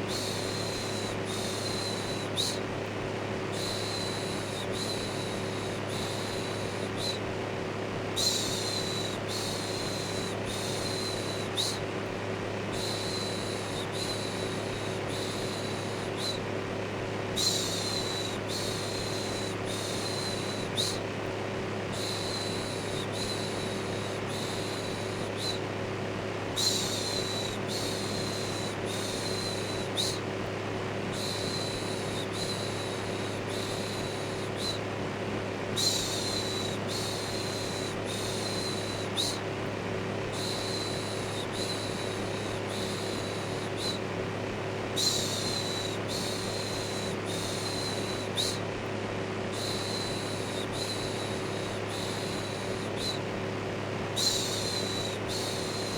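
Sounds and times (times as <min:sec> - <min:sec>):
electric fan whirring: 0:00.0 - 0:55.9.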